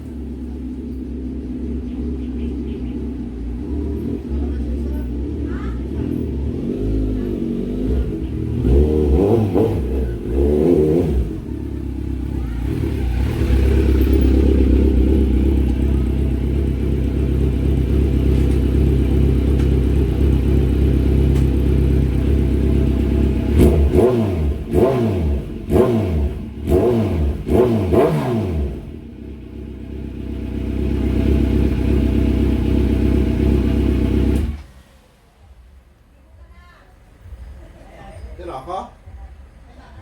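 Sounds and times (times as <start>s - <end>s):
motorcycle engine revving: 0.0s - 35.2s.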